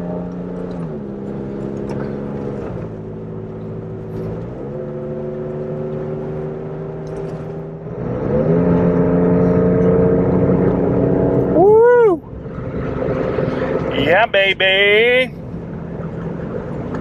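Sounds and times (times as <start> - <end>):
pickup engine accelerating hard: 0.0 - 17.0.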